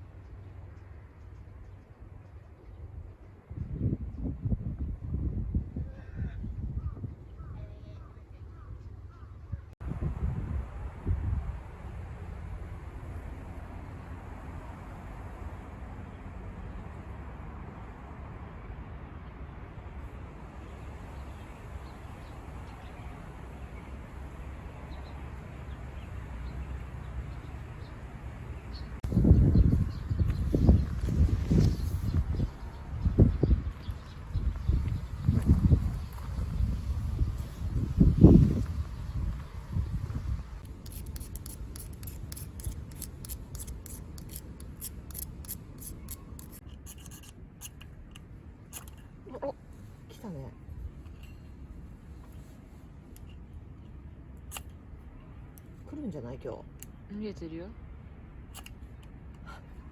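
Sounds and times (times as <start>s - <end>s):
low outdoor rumble: 0.0s - 59.9s.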